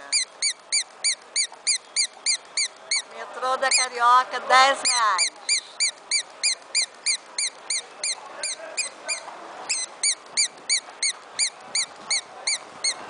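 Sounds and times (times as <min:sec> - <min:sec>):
toy chirper peeping: 0:00.0 - 0:13.0.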